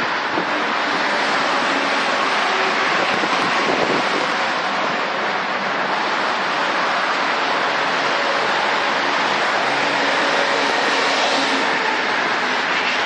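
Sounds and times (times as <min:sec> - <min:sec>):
dense freeway traffic roar: 0:00.0 - 0:13.0.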